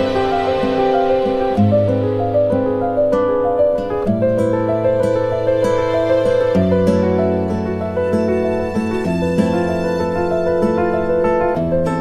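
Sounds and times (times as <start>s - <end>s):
gentle plucked melody: 0.0s - 12.0s.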